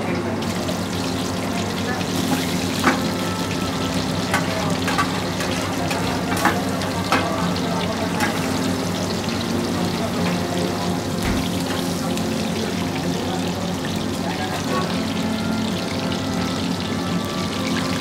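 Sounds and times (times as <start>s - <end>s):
prawns deep-frying in oil: 0.0s - 18.0s.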